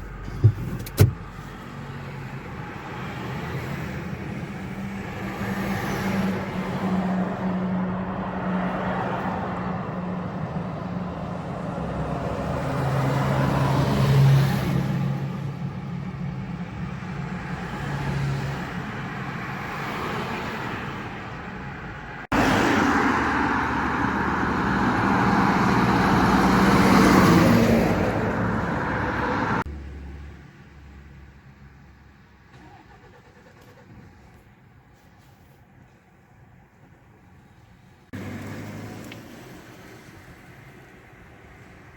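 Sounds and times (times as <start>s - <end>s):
trucks and traffic driving past: 0.0s - 41.9s.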